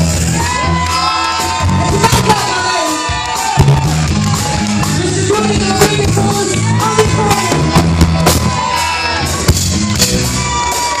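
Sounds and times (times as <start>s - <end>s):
electric bass: 0.0s - 11.0s
drum and cymbal hits: 1.3s - 11.0s.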